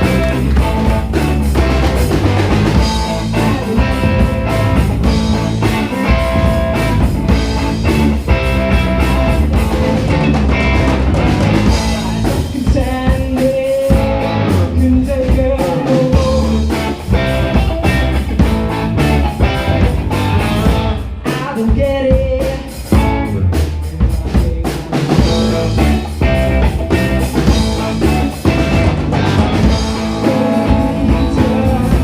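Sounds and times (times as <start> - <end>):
live band playing funk rock: 0.0 - 32.0.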